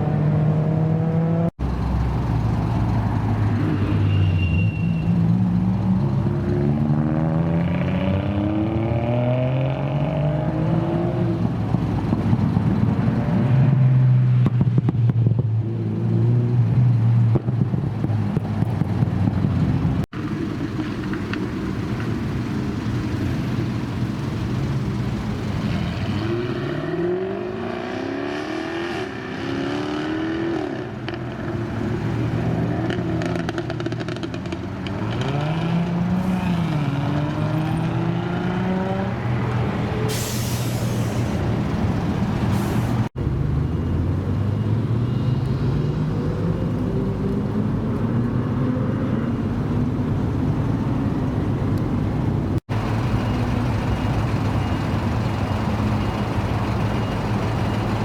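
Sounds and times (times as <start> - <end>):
car engines accelerating: 5.1 - 58.0.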